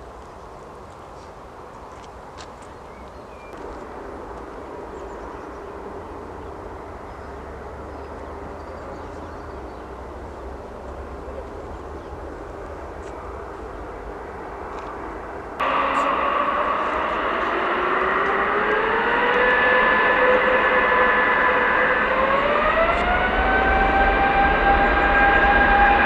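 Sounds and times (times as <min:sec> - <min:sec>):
airliner engine hum: 0:03.6 - 0:26.0.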